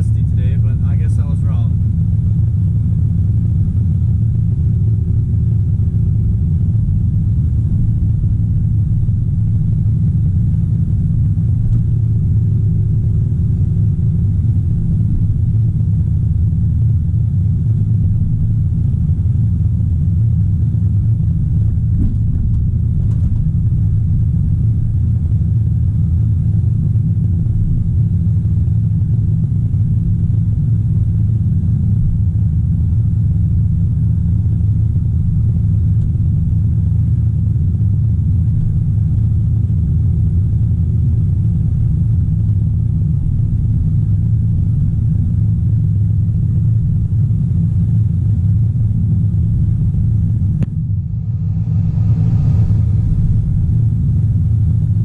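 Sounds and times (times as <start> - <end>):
diesel engine low rumble: 0.0 - 55.0.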